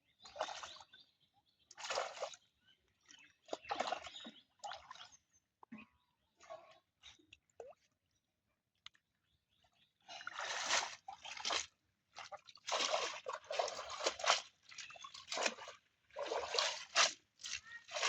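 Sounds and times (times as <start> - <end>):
water splashing and sloshing: 0.2 - 1.0, 1.6 - 8.1, 10.0 - 18.0.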